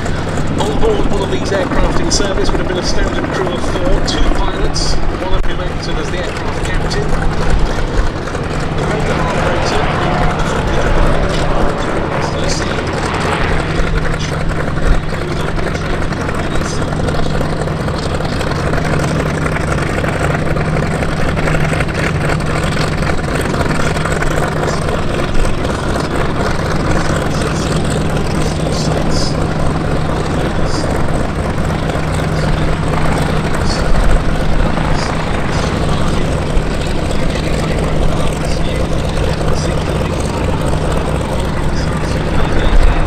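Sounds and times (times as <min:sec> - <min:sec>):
helicopter rotor and turbines: 0:00.0 - 0:43.0.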